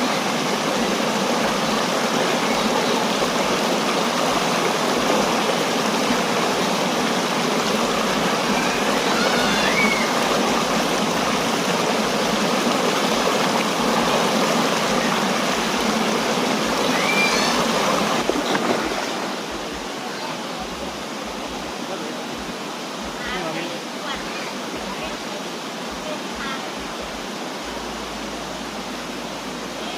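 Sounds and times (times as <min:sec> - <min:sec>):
waterfall and stream rushing: 0:00.0 - 0:29.9.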